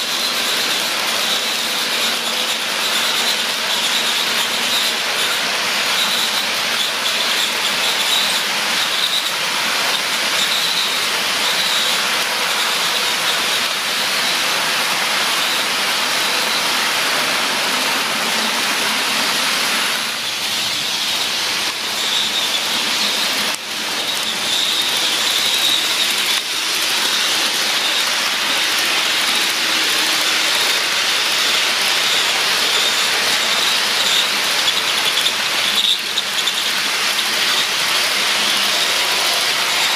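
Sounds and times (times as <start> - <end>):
high wheel squeal: 0.0 - 39.9
model train wheels rolling on rails: 0.0 - 39.9.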